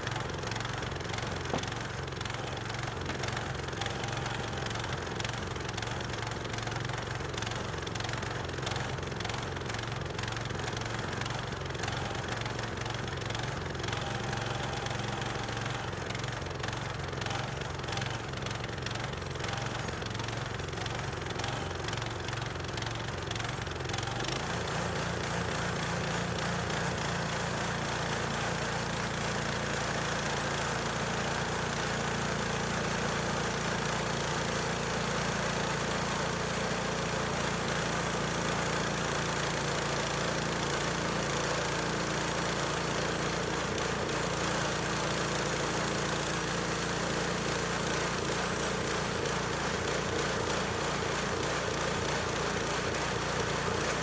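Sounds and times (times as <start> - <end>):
gasoline engine running: 0.0 - 54.0.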